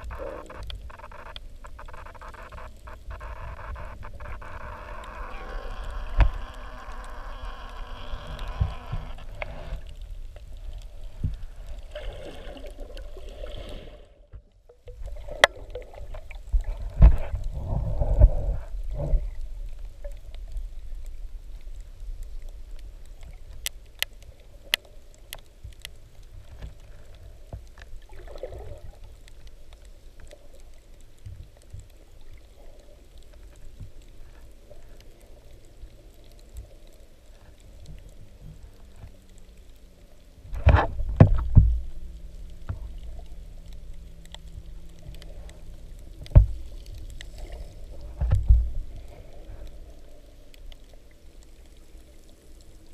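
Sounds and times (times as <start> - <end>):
faint steady hum: 0.0 - 52.9
underwater low rumble: 0.0 - 52.9.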